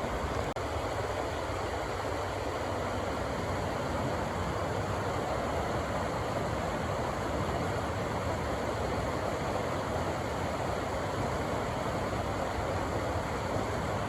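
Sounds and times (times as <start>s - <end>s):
rushing river water: 0.0s - 14.0s.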